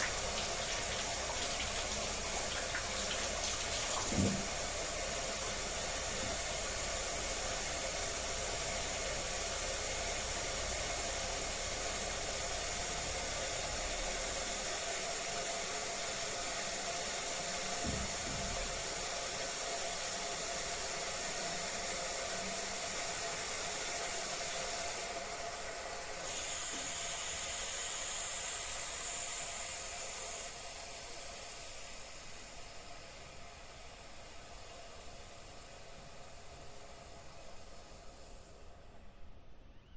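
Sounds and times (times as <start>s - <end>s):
toilet fill valve hissing: 0.0s - 38.6s.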